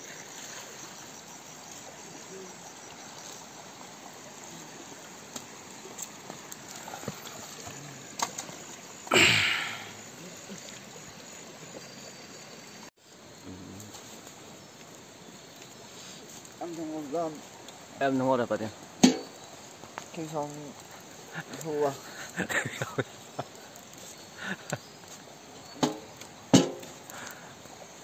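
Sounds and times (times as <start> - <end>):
stream running over rocks: 0.0 - 28.0.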